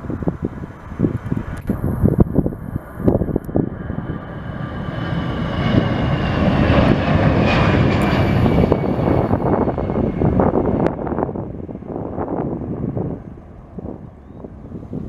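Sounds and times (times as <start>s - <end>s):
jet engines roaring past: 0.0s - 15.0s
wind buffeting microphone: 0.0s - 15.0s.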